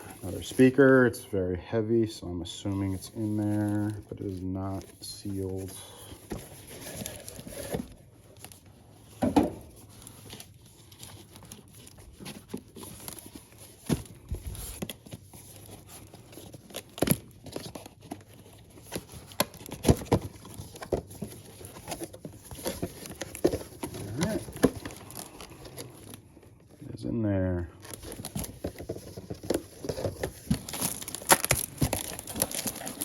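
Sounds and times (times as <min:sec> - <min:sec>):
cardboard packaging rustling: 0:00.0 - 0:26.8, 0:27.4 - 0:33.0.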